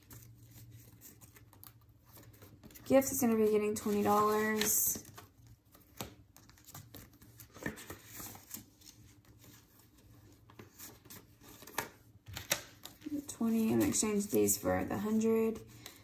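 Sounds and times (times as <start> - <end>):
banknotes and plastic rustling: 0.0 - 16.0.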